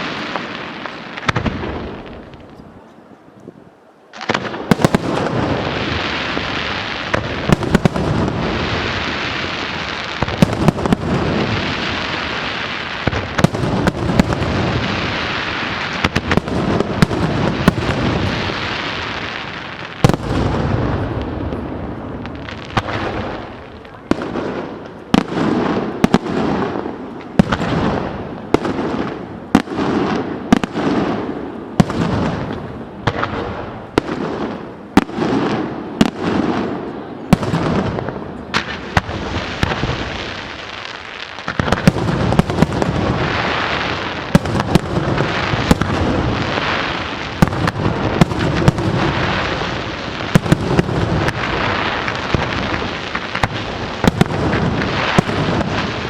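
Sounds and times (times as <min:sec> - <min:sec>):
crackling fireworks barrage: 0:00.0 - 0:56.0
fireworks bursting with echo: 0:00.0 - 0:56.0.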